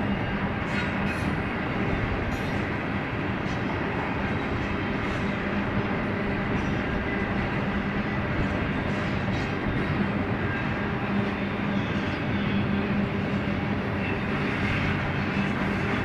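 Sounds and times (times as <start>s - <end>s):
steel wheels on rails: 0.0s - 16.0s.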